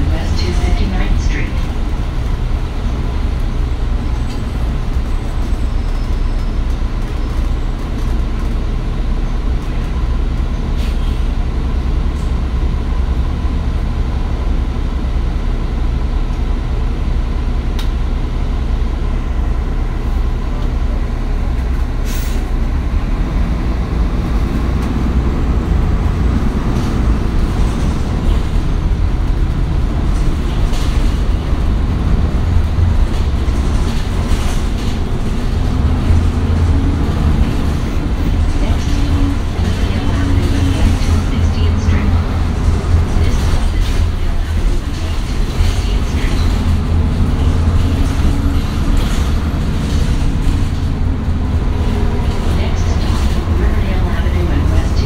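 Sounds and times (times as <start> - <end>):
bus diesel engine drone: 0.0 - 55.0
road noise: 0.0 - 55.0.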